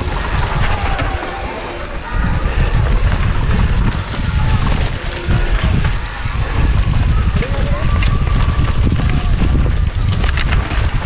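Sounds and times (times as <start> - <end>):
bike rattling over rough ground: 0.0 - 11.0
wind rush on microphone: 0.0 - 11.0.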